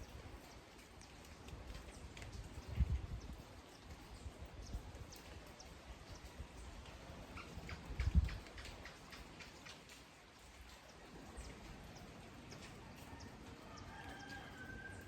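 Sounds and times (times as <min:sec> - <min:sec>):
light rain patter: 0:00.0 - 0:15.0.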